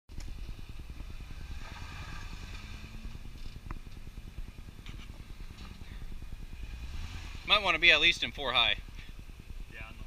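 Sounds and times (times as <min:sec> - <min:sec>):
off-road vehicle engine low revs: 0:00.2 - 0:10.0.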